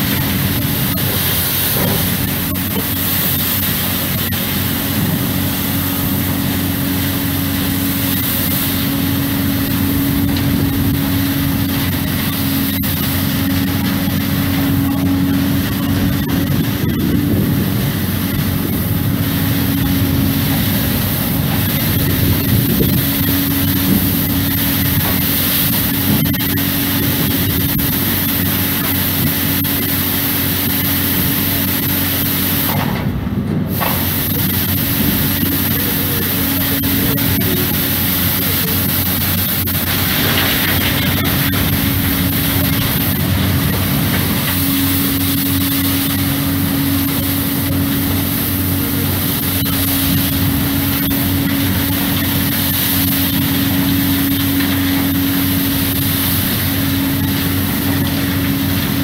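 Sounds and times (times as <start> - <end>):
hydraulic brush machine humming: 0.0 - 59.0.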